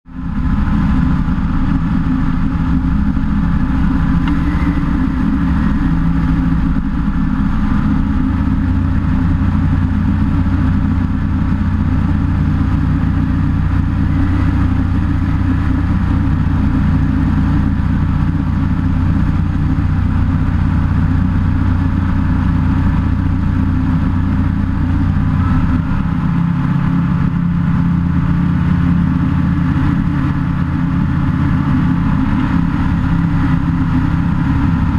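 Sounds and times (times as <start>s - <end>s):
aircraft engine and propeller drone: 0.1s - 34.9s.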